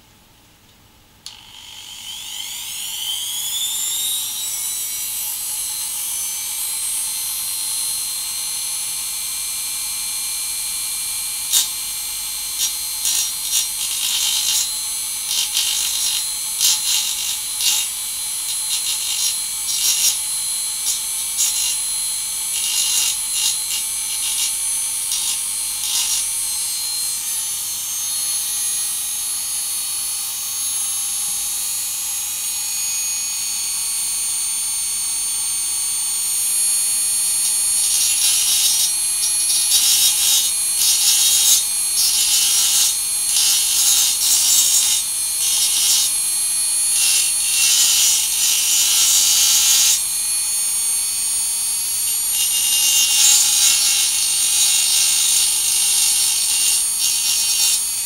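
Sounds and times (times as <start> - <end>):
rotary tool cutting glass: 1.2 - 7.9, 11.5 - 11.8, 12.5 - 58.0.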